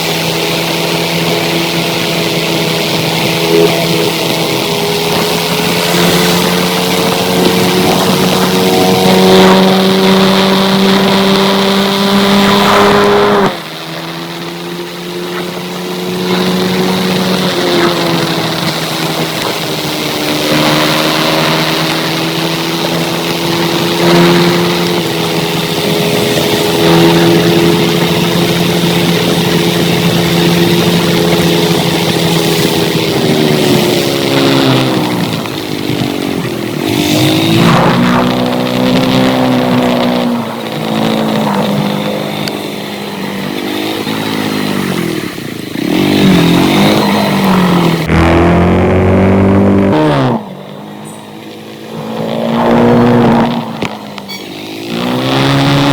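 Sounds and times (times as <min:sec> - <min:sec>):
steady rushing hiss: 0:00.0 - 0:48.1
motorcycle engine running: 0:00.0 - 0:55.9.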